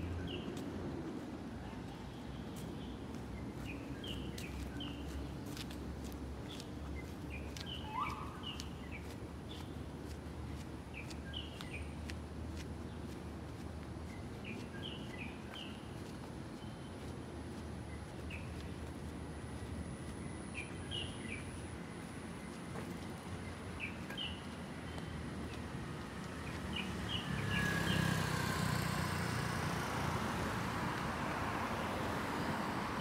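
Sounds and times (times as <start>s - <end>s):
small birds chirping: 1.9s - 28.8s.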